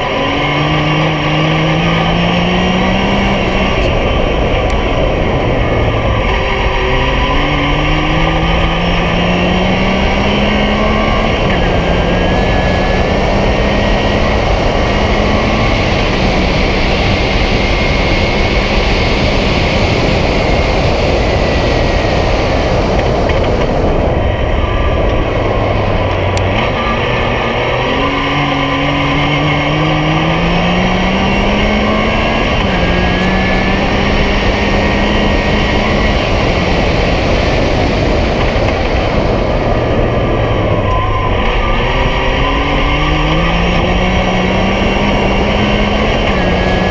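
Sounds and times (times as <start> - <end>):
engine running: 0.0 - 46.9
wind and road noise: 0.0 - 46.9.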